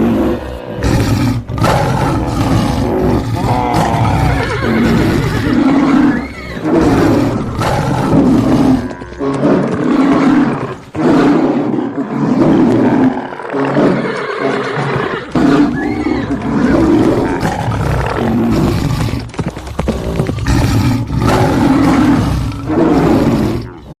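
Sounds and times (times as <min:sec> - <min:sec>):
animal roaring: 0:00.0 - 0:24.0.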